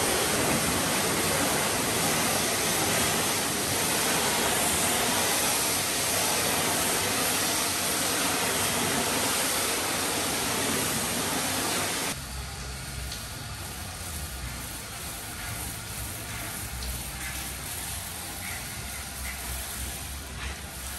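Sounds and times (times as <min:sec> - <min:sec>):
pressure washer spraying hull: 0:00.0 - 0:20.9.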